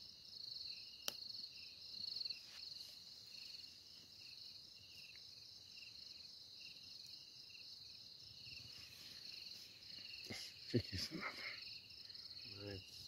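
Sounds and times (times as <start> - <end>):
high cricket trill: 0.0 - 13.0
lower cricket trill: 0.0 - 13.0.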